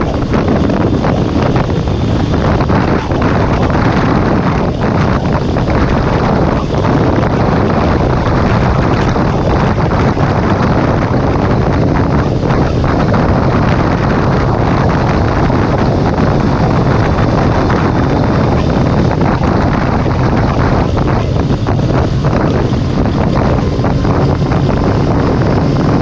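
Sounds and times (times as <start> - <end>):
motorcycle running: 0.0 - 26.0
wind buffeting microphone: 0.0 - 26.0.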